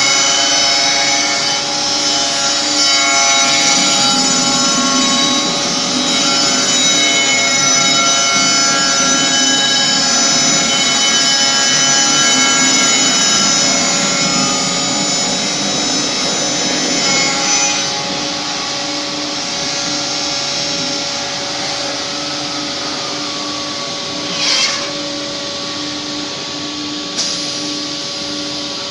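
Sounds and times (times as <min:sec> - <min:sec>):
wood shaper motor whine: 0:00.0 - 0:28.9.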